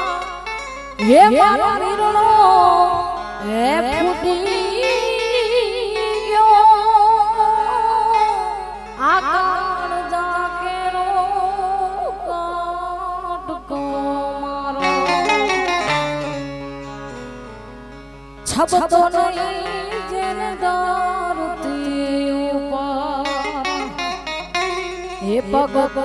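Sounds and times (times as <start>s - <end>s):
woman singing folk song: 0.0s - 16.0s, 18.4s - 26.0s
keyboard accompaniment: 0.0s - 26.0s.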